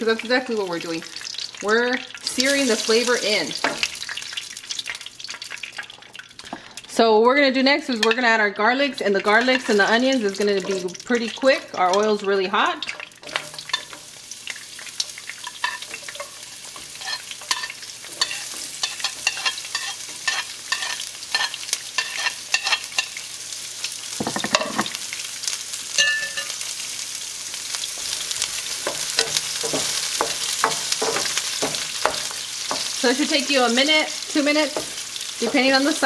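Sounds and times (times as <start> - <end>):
onions sizzling in hot oil: 0.0 - 7.0, 7.6 - 36.0.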